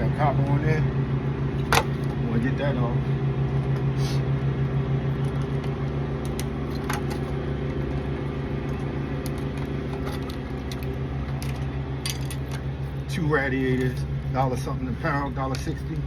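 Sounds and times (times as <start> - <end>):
motor humming: 0.1 - 16.0.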